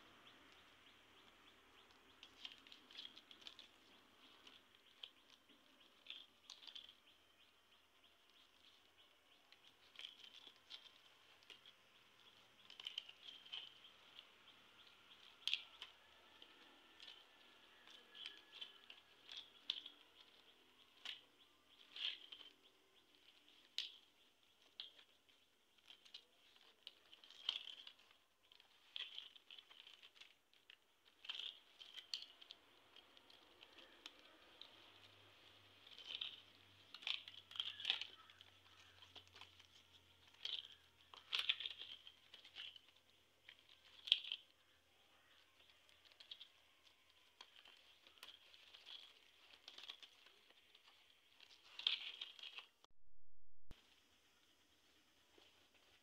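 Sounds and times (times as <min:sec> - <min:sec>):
dried leaves crackling and rustling: 0:00.0 - 0:52.9.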